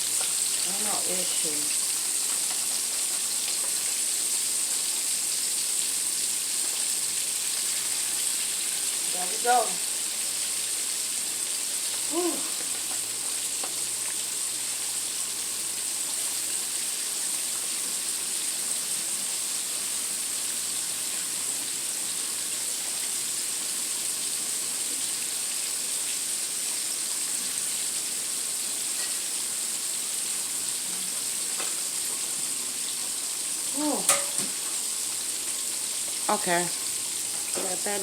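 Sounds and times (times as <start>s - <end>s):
chicken wings sizzling in oil: 0.0s - 38.0s.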